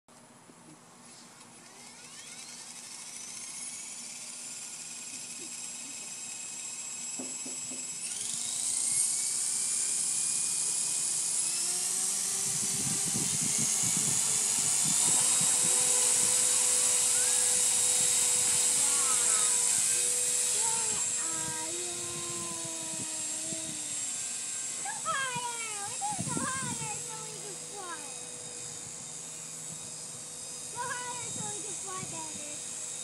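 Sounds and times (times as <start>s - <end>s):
model helicopter motor whine: 1.0s - 33.0s.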